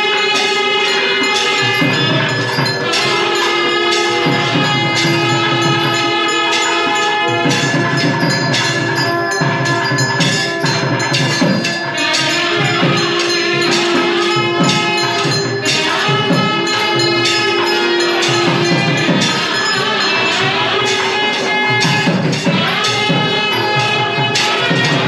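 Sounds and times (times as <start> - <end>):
temple bells ringing rapidly: 0.0 - 25.0.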